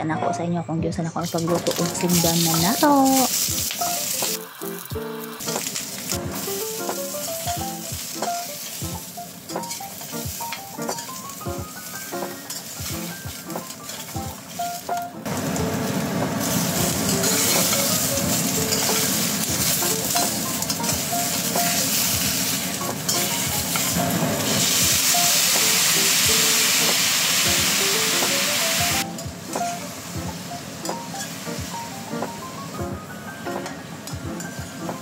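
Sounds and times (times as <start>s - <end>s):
soft background music: 0.0s - 35.0s
meat sizzling in a wok: 1.3s - 35.0s.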